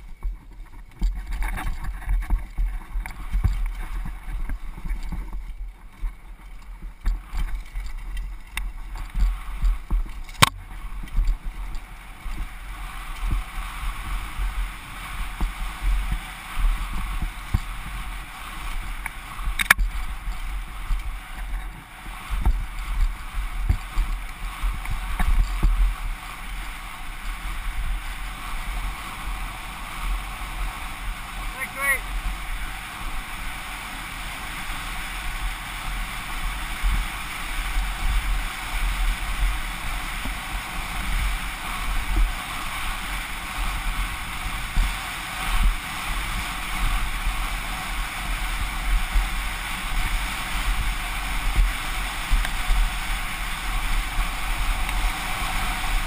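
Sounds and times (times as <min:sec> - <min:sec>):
mountain bike rumbling and rattling: 0:00.0 - 0:56.0.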